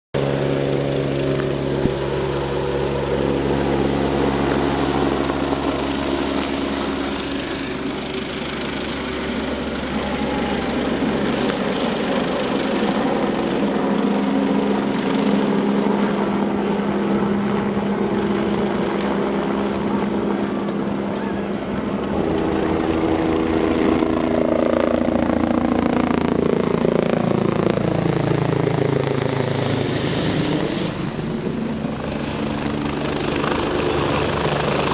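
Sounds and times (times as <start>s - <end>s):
helicopter engine and rotor: 0.2s - 34.9s.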